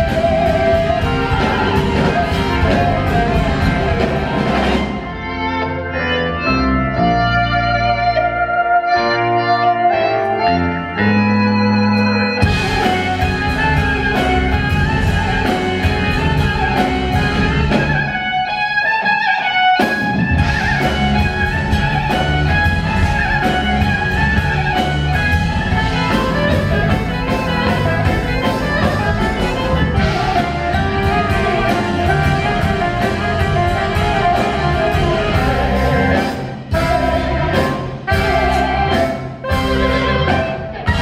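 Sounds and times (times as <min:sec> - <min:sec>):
drums: 0:00.0 - 0:41.0
held keyboard chords: 0:00.0 - 0:41.0
live rock band playing: 0:00.0 - 0:41.0.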